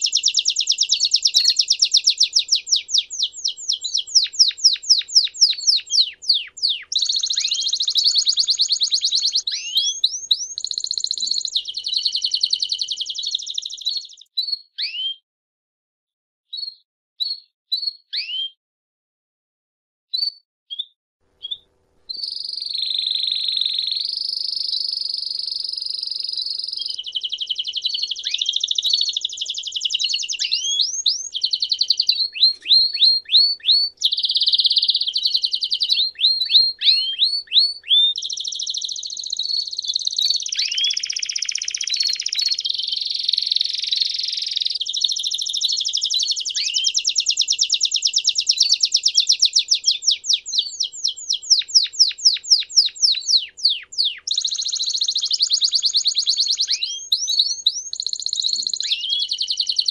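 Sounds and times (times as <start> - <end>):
canary singing trills: 0.0 - 15.2, 20.2 - 59.9.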